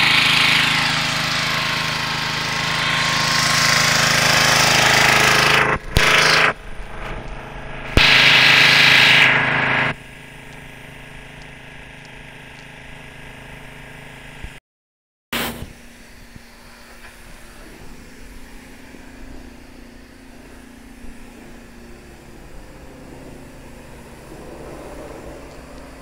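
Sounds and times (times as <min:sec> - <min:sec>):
pressure washer motor humming: 0:00.0 - 0:14.6, 0:15.4 - 0:26.0.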